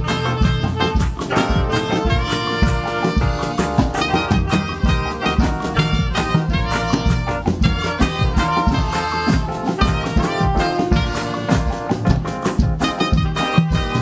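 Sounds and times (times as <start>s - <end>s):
steady drum beat: 0.0s - 14.0s
upbeat praise music with brass: 0.0s - 14.0s.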